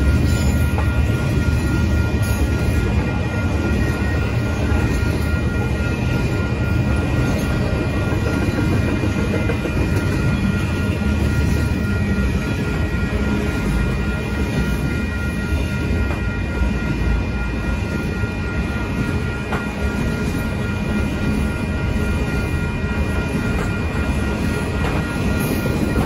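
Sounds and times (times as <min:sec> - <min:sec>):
steady high tones: 0:00.0 - 0:26.0
steel wheels rumbling on rails: 0:00.0 - 0:26.0.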